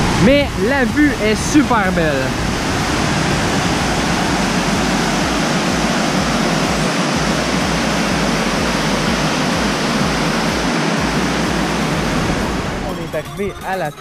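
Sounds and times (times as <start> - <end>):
water rushing down spillway: 0.0 - 13.1.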